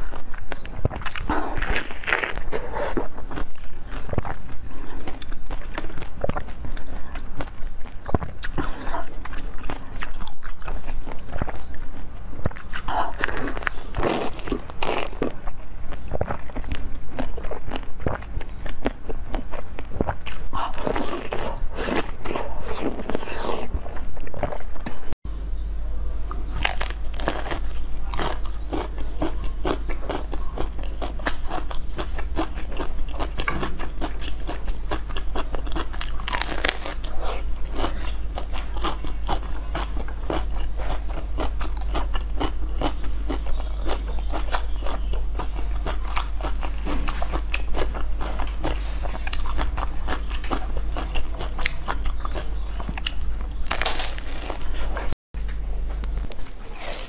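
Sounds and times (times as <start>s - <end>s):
crunchy biting and chewing: 0.0s - 25.0s, 26.2s - 57.0s
steady low hum: 0.0s - 57.0s.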